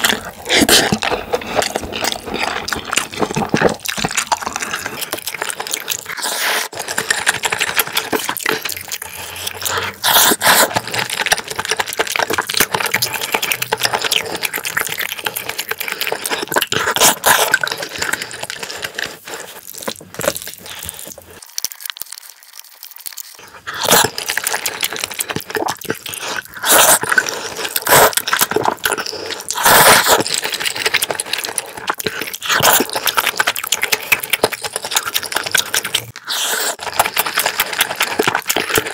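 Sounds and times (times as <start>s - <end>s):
chewing and mouth noises: 0.0s - 38.9s.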